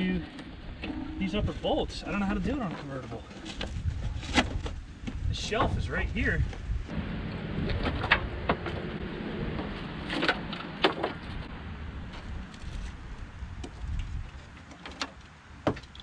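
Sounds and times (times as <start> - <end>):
low background rumble: 0.0 - 14.2.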